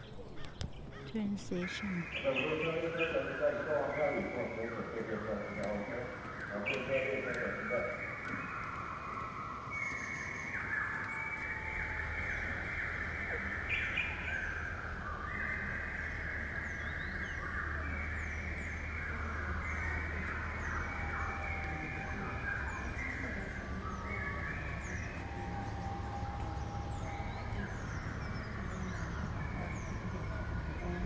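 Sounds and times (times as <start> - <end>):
birds chirping and calling: 0.0 - 31.0
steady low rumble: 1.5 - 31.0.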